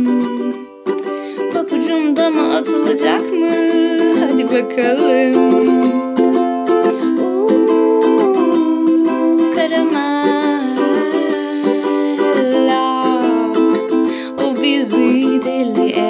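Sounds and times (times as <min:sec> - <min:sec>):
instrumental music: 0:00.0 - 0:16.0
person singing: 0:00.0 - 0:16.0.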